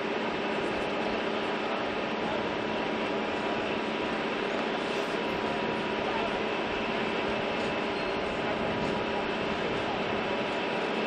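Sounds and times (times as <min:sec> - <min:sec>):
aircraft engine drone: 0:00.0 - 0:11.0.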